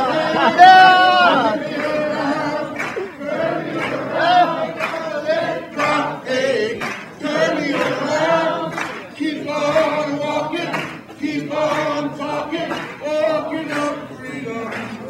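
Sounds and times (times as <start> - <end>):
crowd singing unaccompanied: 0.0 - 15.0.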